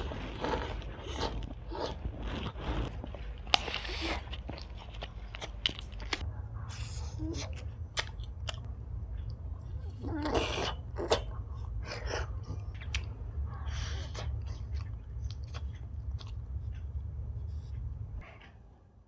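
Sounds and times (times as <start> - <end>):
person chewing sweets: 0.0 - 18.1.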